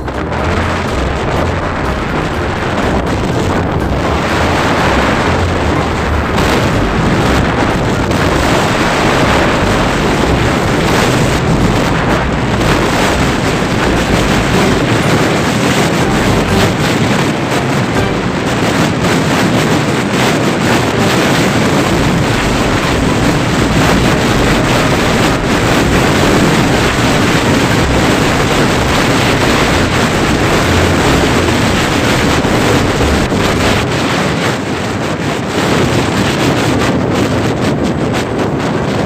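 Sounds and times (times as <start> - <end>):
motorcycle running: 0.0 - 39.0
wind blasting microphone: 0.0 - 39.0.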